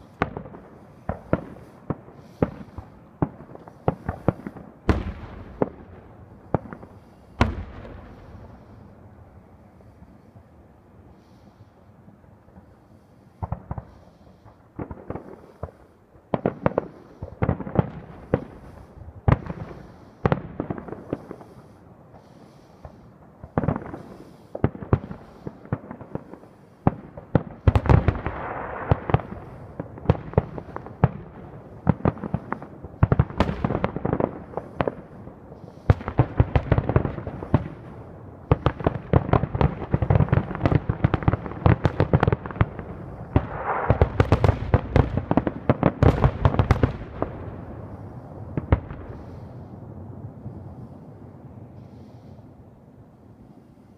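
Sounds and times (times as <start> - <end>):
fireworks bursting in sharp bangs: 0.0 - 8.8, 13.4 - 49.6.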